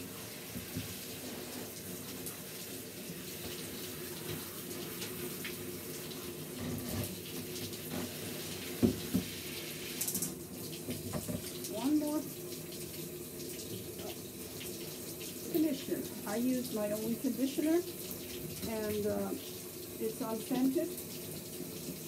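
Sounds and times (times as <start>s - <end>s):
water running from shower head: 0.0s - 22.0s.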